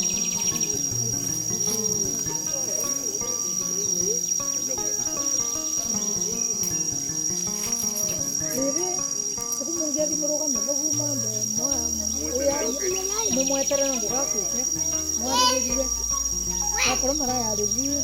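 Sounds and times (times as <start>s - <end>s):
insects chirring: 0.0s - 18.0s
soft melodic music: 0.0s - 18.0s.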